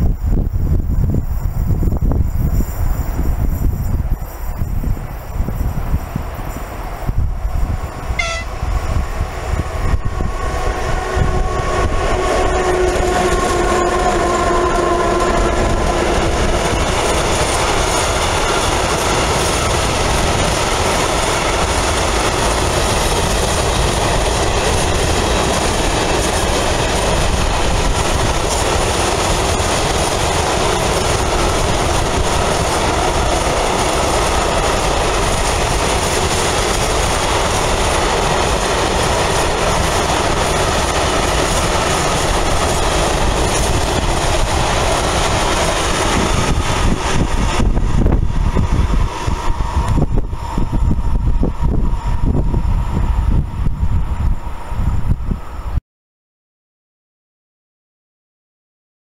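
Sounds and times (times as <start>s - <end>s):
electric locomotive passing tone: 0.0s - 55.8s
freight wagons wheels on rail: 0.0s - 55.8s.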